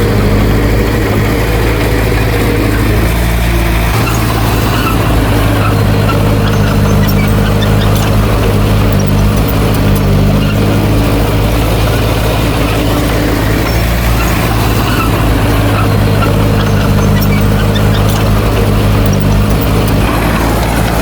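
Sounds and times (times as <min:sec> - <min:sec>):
diesel engine running steadily: 0:00.0 - 0:21.0.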